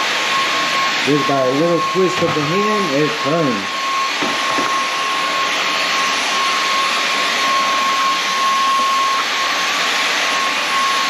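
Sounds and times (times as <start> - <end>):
vacuum motor whine: 0.0 - 11.0.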